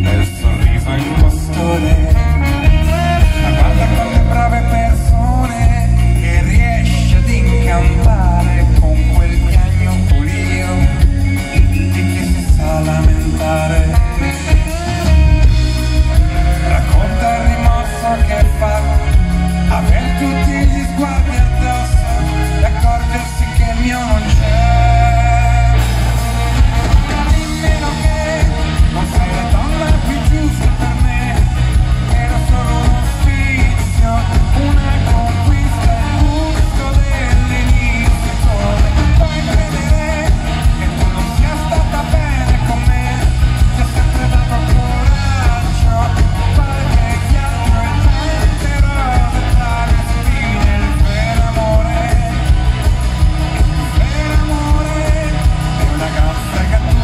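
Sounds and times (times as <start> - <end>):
drums: 0.0 - 57.0
electric bass guitar: 0.0 - 57.0
man singing: 0.0 - 57.0.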